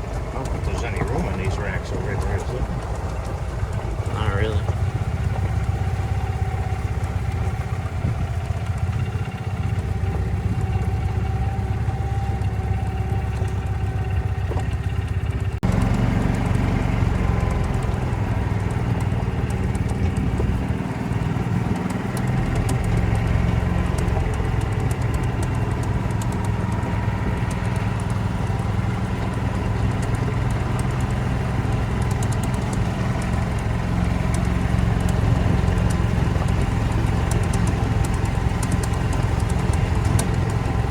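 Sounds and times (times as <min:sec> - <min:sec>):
golf cart driving: 0:00.0 - 0:40.9.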